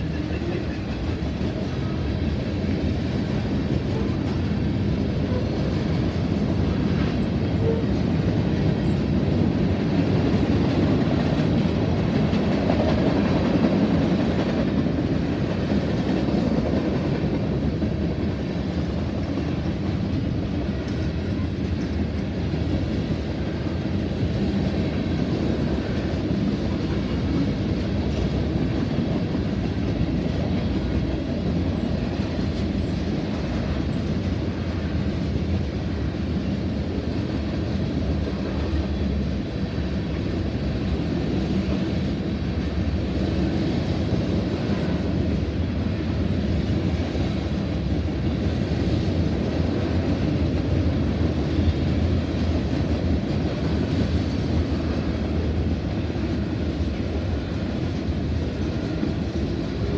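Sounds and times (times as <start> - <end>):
clickety-clack of train wheels: 0.0 - 59.9
train wheels rumbling on rail: 0.0 - 59.9.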